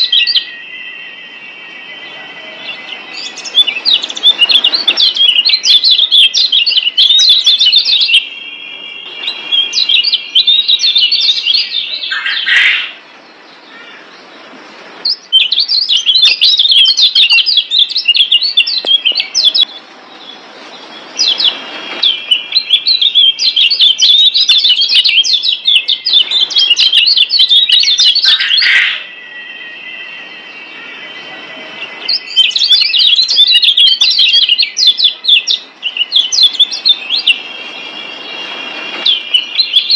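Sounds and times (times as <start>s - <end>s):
bird whistle: 0.0s - 13.0s, 15.0s - 19.7s, 20.9s - 39.9s
bird twittering chirps: 0.0s - 39.9s.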